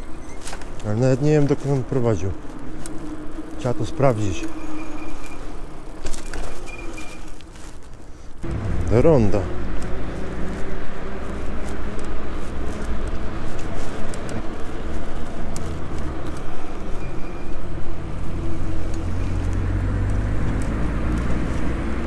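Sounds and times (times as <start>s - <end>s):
bicycle road rumble: 0.0s - 22.0s
car humming alongside: 0.0s - 22.0s.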